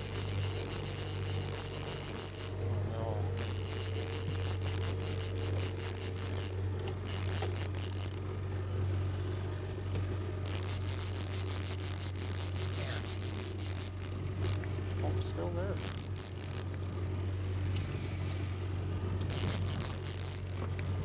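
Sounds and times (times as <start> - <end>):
fishing reel drag ratchet buzzing: 0.0 - 2.6, 3.3 - 21.0
steady low hum: 0.0 - 21.0.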